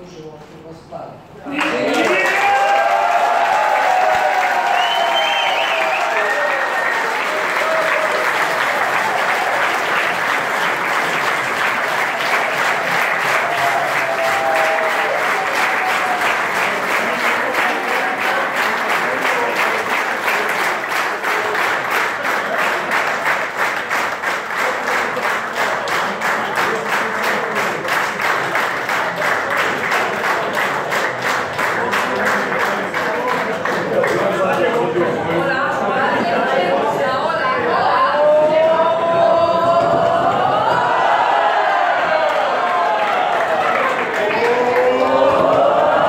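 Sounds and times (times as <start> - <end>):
guests applauding: 1.5 - 35.5, 39.6 - 46.0.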